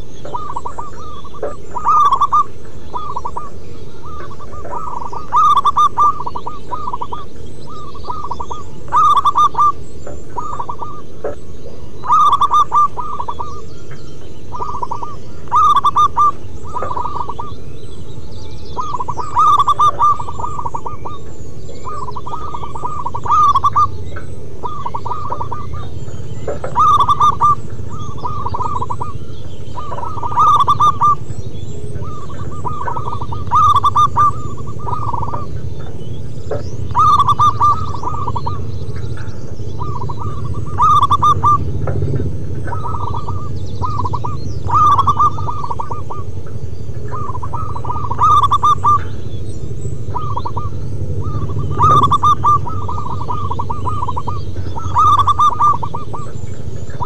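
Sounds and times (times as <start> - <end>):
doves cooing: 0.0 - 57.0
steady low rumble: 0.0 - 57.0.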